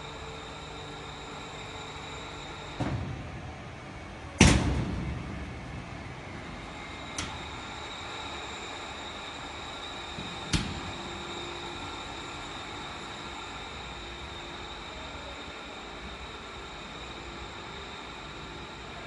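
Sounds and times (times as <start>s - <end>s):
filling machine whine and hum: 0.0s - 19.0s.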